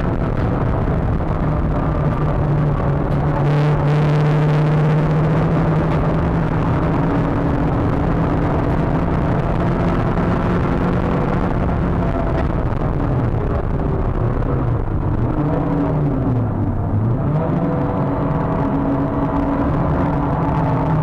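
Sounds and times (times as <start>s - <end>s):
car engine running hard: 0.0s - 21.0s
road and wind noise: 0.0s - 21.0s.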